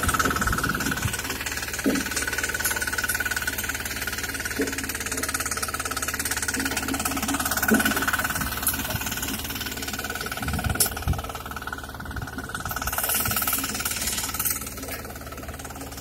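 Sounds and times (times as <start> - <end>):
power tiller engine running: 0.0 - 16.0.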